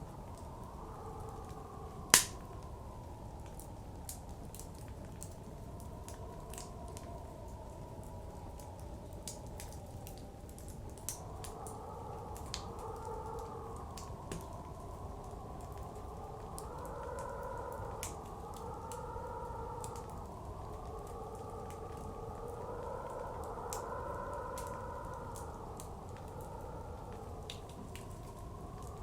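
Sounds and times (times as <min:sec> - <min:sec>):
blizzard wind blowing: 0:00.0 - 0:29.0
wood fire crackling and popping: 0:00.1 - 0:29.0.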